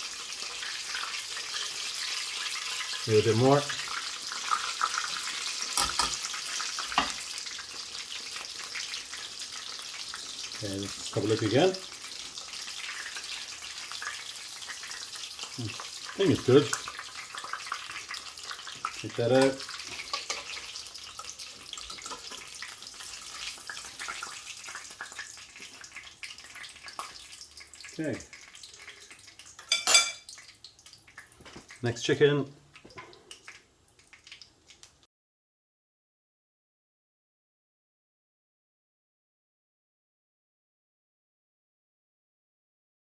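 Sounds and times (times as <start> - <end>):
food sizzling in a frying pan: 0.0 - 35.1.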